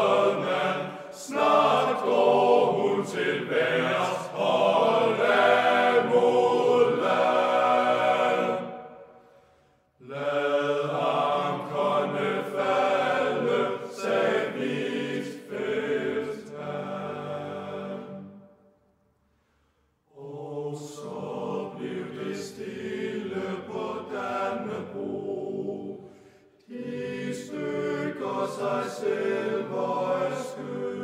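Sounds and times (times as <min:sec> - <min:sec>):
choir singing: 0:00.0 - 0:09.4, 0:10.0 - 0:18.7, 0:20.1 - 0:31.0.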